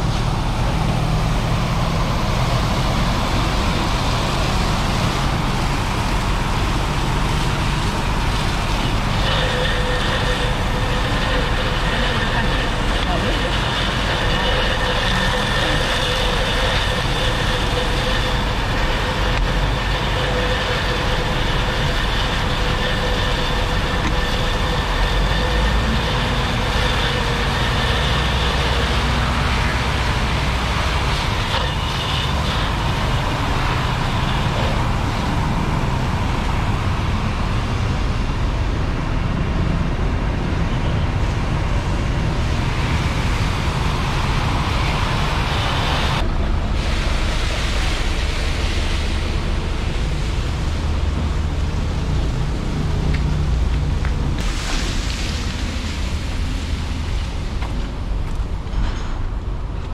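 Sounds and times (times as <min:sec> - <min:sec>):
water jets hissing: 0:00.0 - 0:38.4, 0:42.2 - 0:58.6
fire engine pumps rumbling: 0:00.0 - 0:59.9
steady whine: 0:00.0 - 0:59.9.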